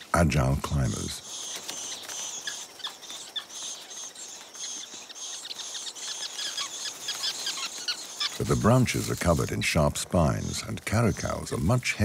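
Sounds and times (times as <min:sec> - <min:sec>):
birds chattering with high chirps: 0:00.0 - 0:12.0.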